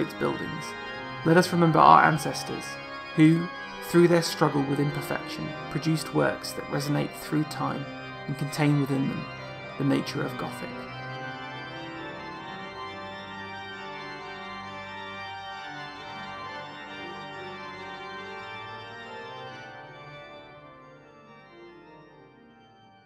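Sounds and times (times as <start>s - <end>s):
held keyboard chords: 0.0s - 23.0s.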